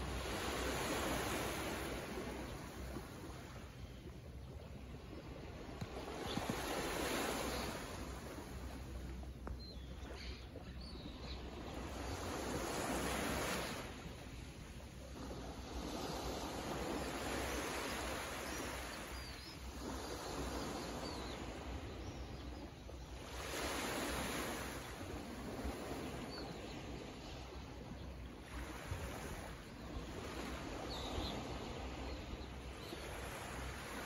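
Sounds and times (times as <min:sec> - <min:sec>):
small waves lapping on sand: 0:00.0 - 0:34.0.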